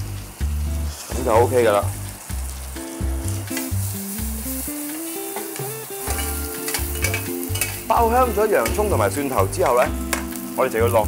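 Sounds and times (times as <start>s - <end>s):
background music: 0.0s - 11.0s
onions sizzling in hot oil: 0.0s - 11.0s.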